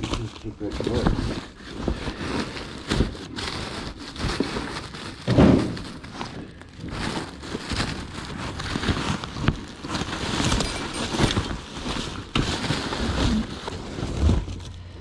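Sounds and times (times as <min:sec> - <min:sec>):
rustling and crackling: 0:00.0 - 0:15.0.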